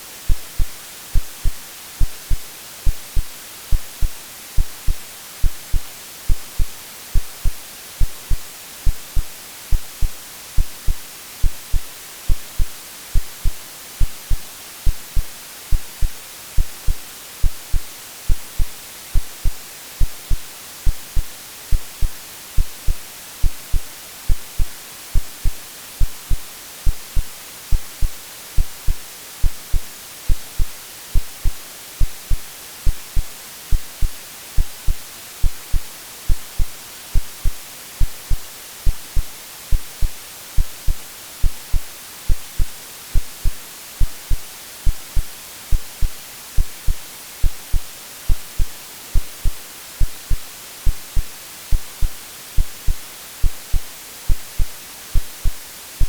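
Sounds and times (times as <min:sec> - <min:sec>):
white noise hiss: 0:00.0 - 0:56.0
heartbeat thumps: 0:00.3 - 0:55.6.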